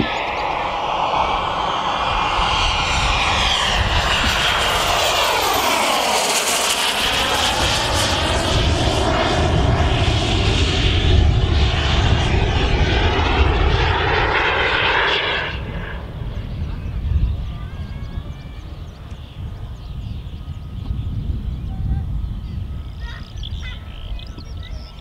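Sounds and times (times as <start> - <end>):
jet passing overhead: 0.0 - 25.0.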